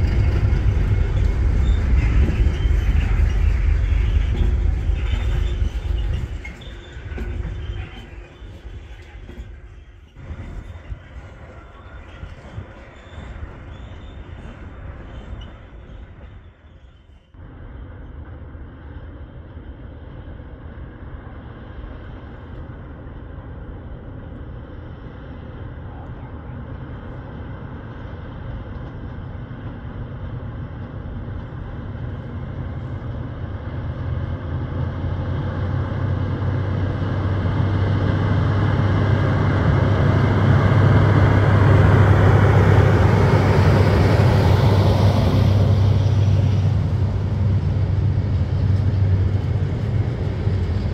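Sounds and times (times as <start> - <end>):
diesel locomotive engine drone: 0.0 - 50.9.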